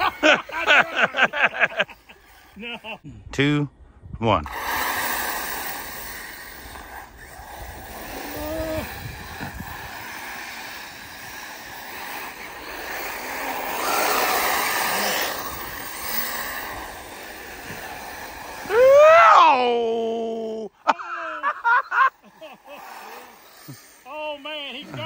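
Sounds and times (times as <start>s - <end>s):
rc buggies rushing on dirt: 0.0s - 3.0s, 4.4s - 25.0s.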